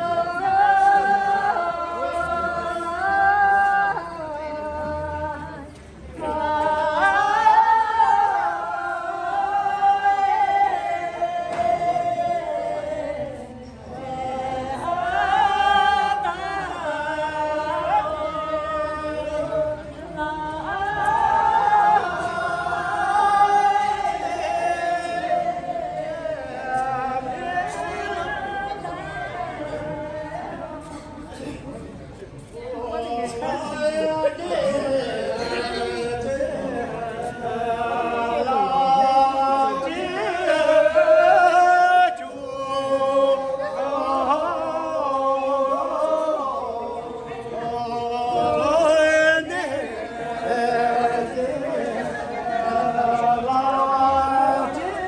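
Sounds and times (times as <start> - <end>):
group singing folk song: 0.0 - 55.0.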